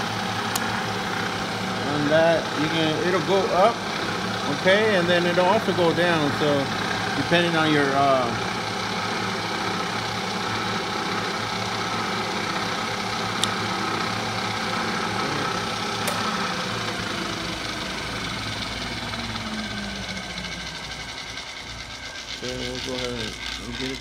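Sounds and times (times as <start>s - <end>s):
milling machine humming: 0.0s - 24.0s.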